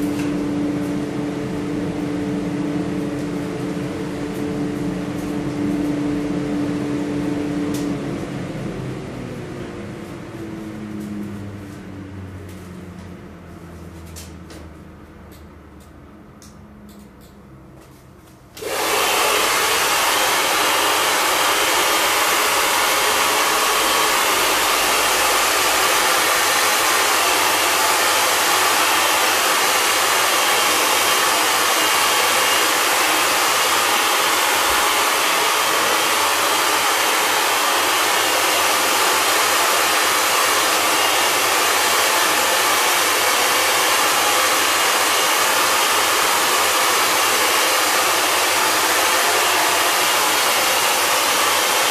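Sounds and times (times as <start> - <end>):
hair dryer blowing: 0.0 - 51.9.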